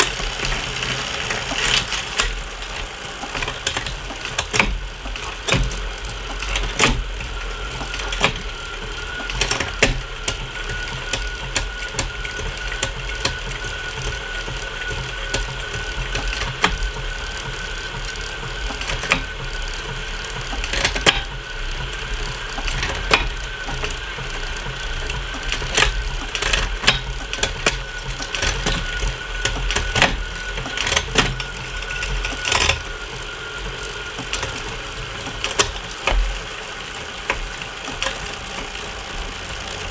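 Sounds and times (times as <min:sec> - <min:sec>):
bicycle chain whining: 0:00.0 - 0:39.9
derailleur shifting gears: 0:00.0 - 0:39.9
drivetrain clicking: 0:00.0 - 0:39.9.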